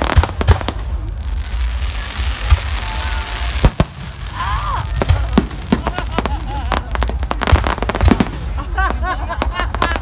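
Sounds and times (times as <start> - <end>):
sharp firework bangs: 0.0 - 1.6, 2.4 - 4.2, 4.8 - 10.0
deep firework booms: 0.0 - 10.0
fireworks crackling: 0.0 - 10.0.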